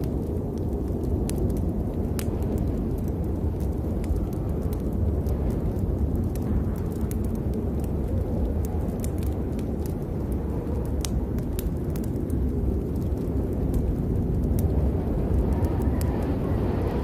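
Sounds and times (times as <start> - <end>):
rain deep rumble: 0.0 - 17.0
raindrops ticking close by: 0.0 - 17.0.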